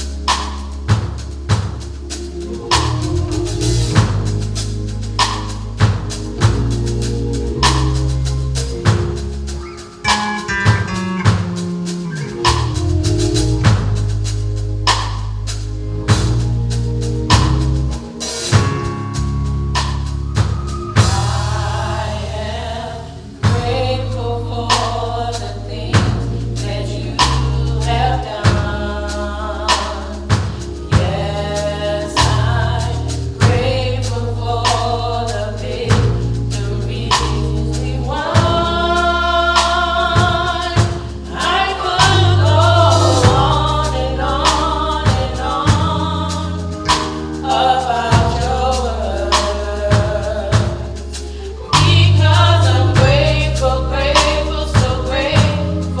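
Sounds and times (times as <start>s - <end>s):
drum kit steady beat: 0.0s - 56.0s
gospel choir singing: 0.0s - 56.0s
held bass notes: 0.0s - 56.0s.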